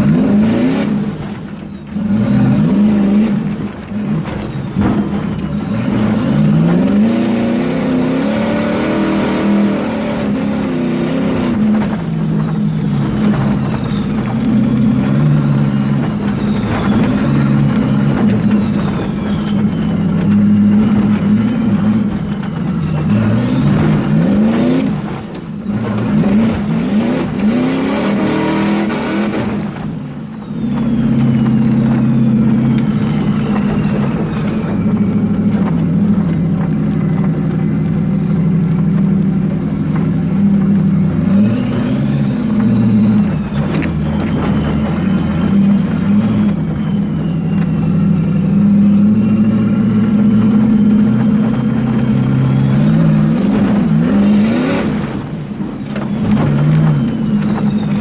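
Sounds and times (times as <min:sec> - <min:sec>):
engine running hard under load: 0:00.0 - 0:58.0
faint turbo whine: 0:00.0 - 0:58.0.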